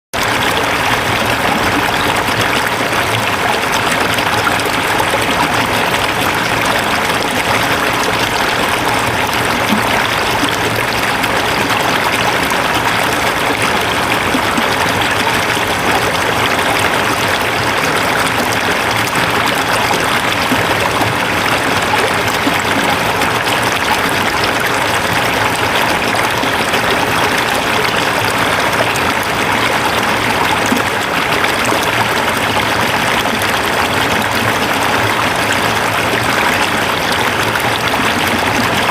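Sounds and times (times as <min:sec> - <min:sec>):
stream rushing over rocks: 0:00.1 - 0:38.9.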